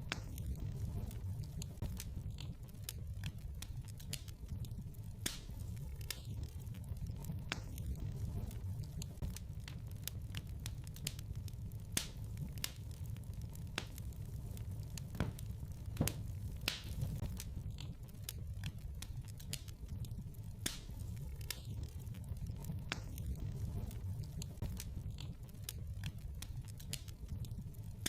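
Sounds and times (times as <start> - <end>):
burning logs popping and snapping: 0.0 - 28.0
low rumble of flames: 0.0 - 28.0.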